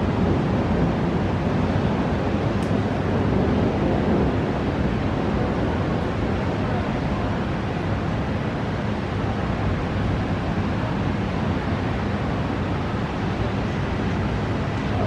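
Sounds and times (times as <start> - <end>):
rushing storm wind: 0.0 - 15.0
wind buffeting microphone: 0.0 - 15.0.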